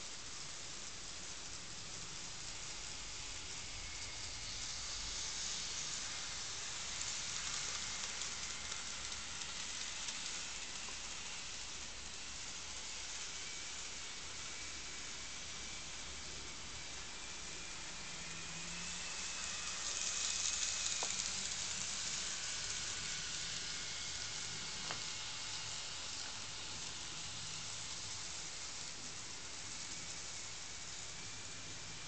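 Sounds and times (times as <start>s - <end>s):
faint motor whine: 0.0s - 32.0s
model train rolling on track: 0.0s - 32.0s.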